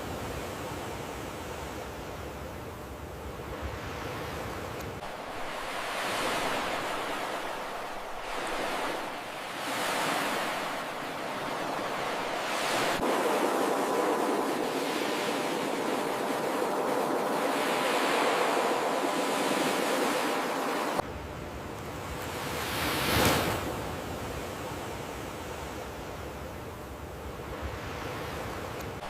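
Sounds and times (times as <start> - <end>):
ocean waves washing onto beach: 0.0 - 26.3.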